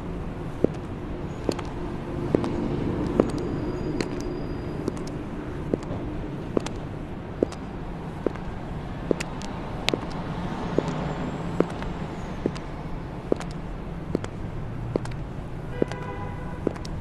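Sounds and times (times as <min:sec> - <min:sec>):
high-heel footsteps on pavement: 0:00.0 - 0:17.0
street traffic hum: 0:00.0 - 0:17.0.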